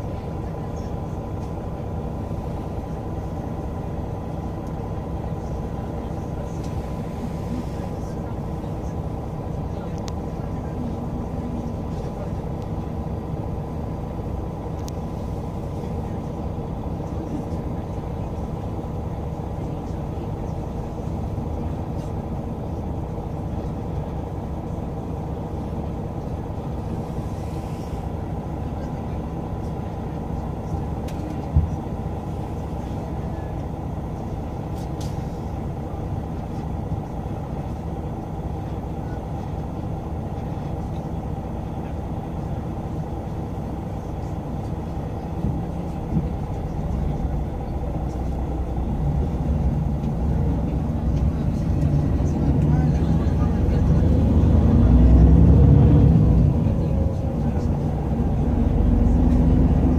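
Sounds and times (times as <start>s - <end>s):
bus engine and tyres rumbling: 0.0s - 59.9s.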